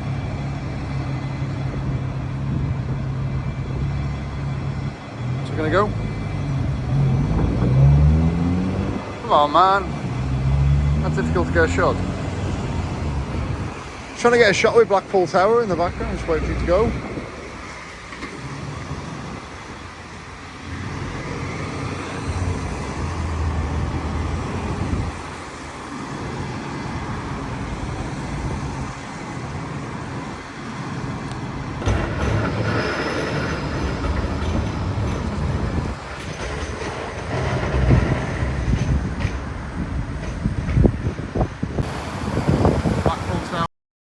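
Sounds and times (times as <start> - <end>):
tram running on rails: 0.0 - 43.7.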